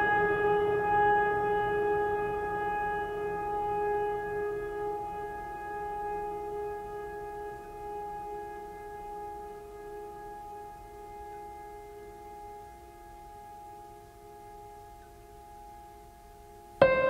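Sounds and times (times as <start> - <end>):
long held ringing music note: 0.0 - 17.0.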